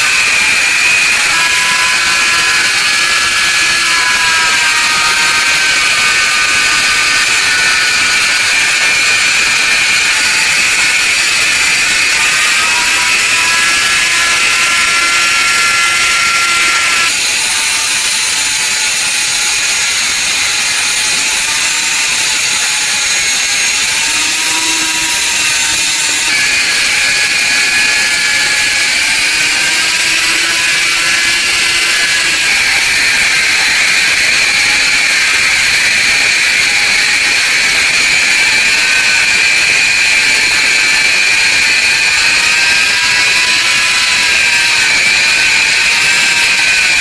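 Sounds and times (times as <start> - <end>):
power tool hissing and whining: 0.0 - 47.0.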